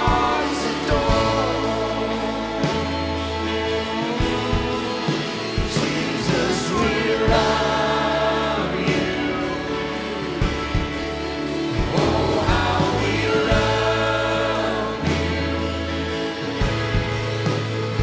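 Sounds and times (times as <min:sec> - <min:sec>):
bass: 0:00.0 - 0:18.0
drum kit: 0:00.0 - 0:18.0
electric guitar: 0:00.0 - 0:18.0
group of voices singing: 0:00.0 - 0:18.0.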